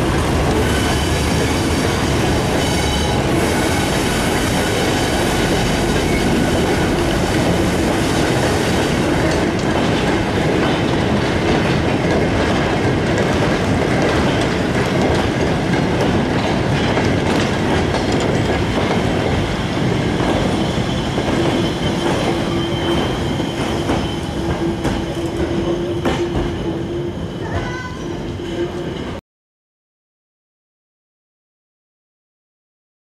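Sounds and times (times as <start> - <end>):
goods train rolling past: 0.0 - 29.2.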